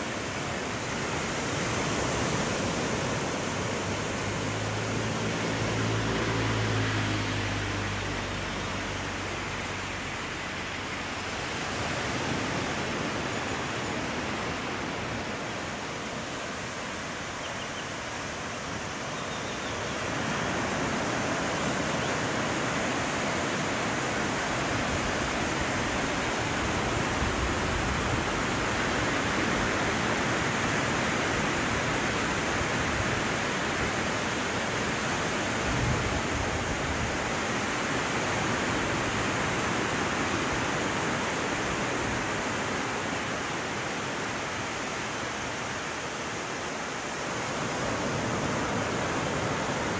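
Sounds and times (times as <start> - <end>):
surf breaking on a beach: 0.0 - 17.3, 17.9 - 49.9.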